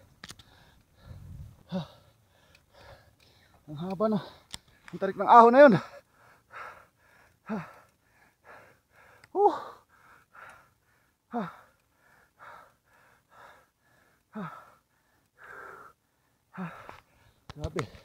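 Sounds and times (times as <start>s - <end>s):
person panting: 0.4s - 4.8s, 5.8s - 17.5s.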